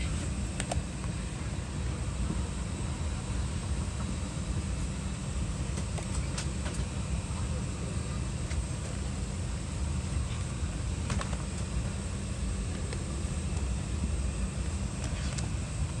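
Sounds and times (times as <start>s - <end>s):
airplane cabin rumble and hiss: 0.0s - 16.0s.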